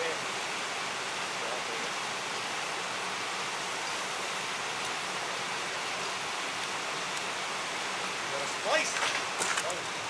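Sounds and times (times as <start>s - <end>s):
flowing water rushing: 0.0s - 10.0s.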